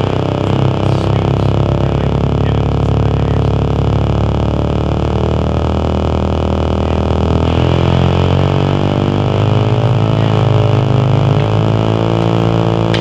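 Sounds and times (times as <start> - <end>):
low hum drone: 0.0 - 13.0.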